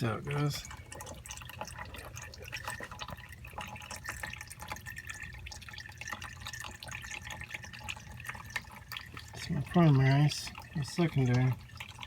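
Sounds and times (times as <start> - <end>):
water dripping and splattering: 0.0 - 12.0.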